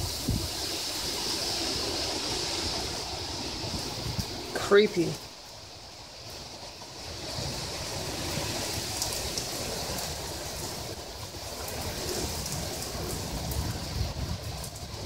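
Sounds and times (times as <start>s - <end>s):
wind buffeting microphone: 0.0s - 4.6s, 5.9s - 15.0s
heavy rain pouring: 0.0s - 15.0s
wind rushing through trees: 0.0s - 15.0s.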